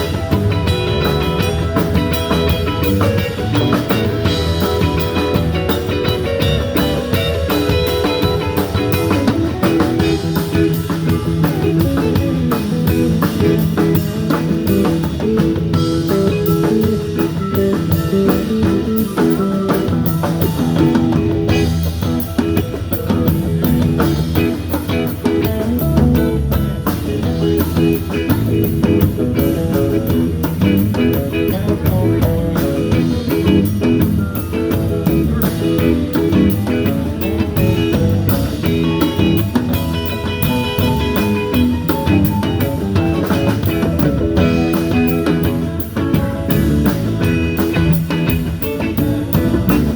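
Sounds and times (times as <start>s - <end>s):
blues-rock band playing: 0.0s - 49.9s
guitar: 0.0s - 49.9s.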